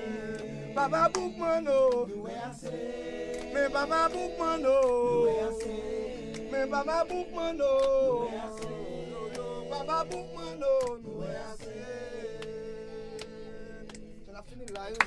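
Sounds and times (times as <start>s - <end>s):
group of voices chanting: 0.0s - 13.8s.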